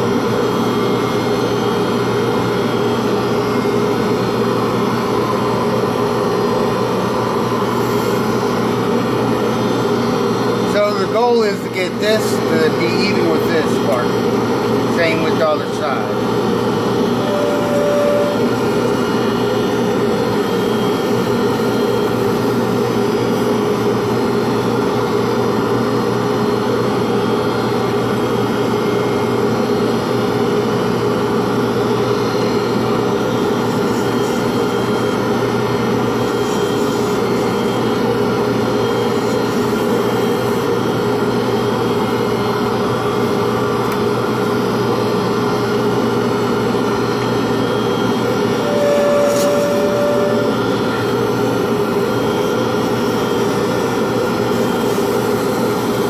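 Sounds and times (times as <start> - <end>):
lathe whining steadily: 0.0 - 56.0.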